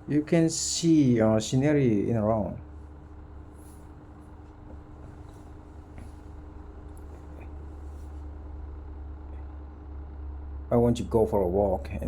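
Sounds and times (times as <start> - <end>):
faint constant hum: 0.0 - 12.0
low background rumble: 0.0 - 12.0.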